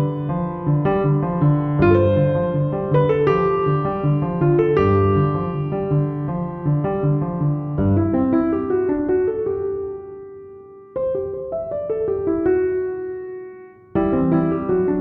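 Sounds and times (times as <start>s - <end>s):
piano playing held chords: 0.0s - 15.0s.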